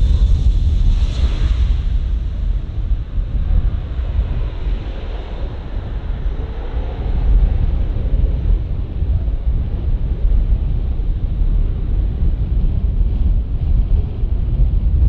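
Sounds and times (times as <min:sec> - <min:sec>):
jet engines low rumble: 0:00.0 - 0:15.0
wind buffeting microphone: 0:00.0 - 0:15.0.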